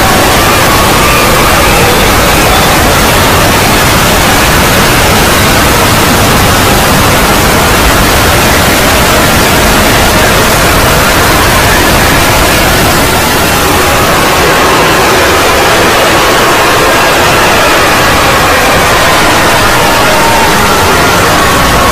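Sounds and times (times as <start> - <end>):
harsh distorted static noise: 0.0 - 21.9.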